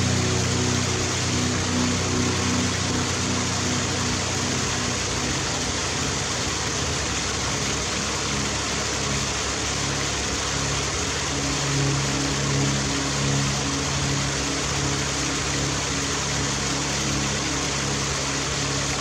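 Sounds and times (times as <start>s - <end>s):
low hum: 0.0s - 19.0s
waterfall rushing over rocks: 0.0s - 19.0s.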